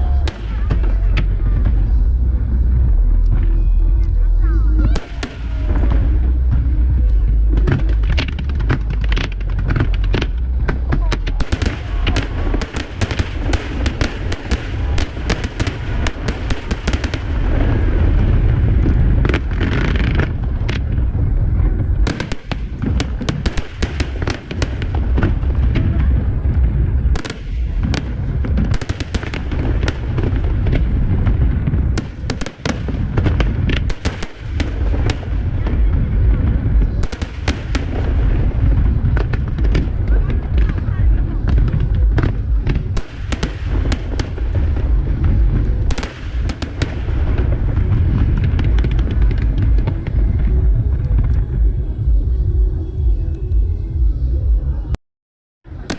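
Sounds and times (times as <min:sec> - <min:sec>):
fireworks barrage: 0:00.0 - 0:55.0, 0:55.7 - 0:55.9.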